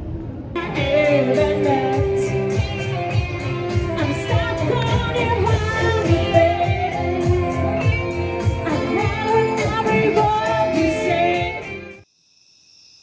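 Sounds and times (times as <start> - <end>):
pop music over loudspeakers: 0.6 - 12.0.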